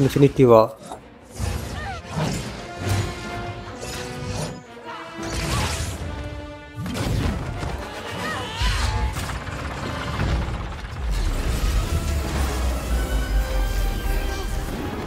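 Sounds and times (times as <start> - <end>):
action film music score: 0.0 - 15.0.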